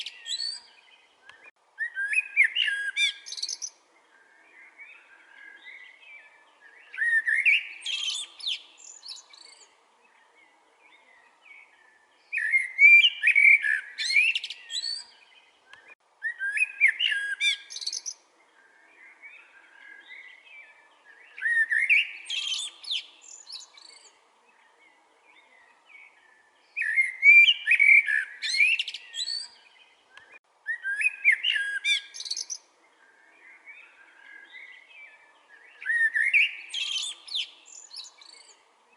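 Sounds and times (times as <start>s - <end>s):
blackbird singing: 0.0s - 38.9s.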